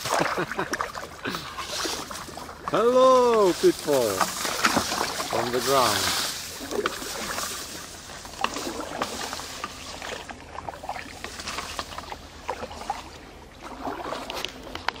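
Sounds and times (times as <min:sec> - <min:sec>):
water dripping off blades: 0:00.0 - 0:12.9
paddles splashing in water: 0:00.0 - 0:15.0.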